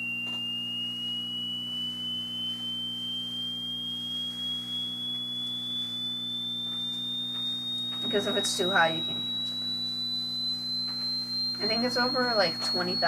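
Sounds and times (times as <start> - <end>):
low steady hum: 0.0 - 13.0
pure tone rising in pitch: 0.0 - 13.0.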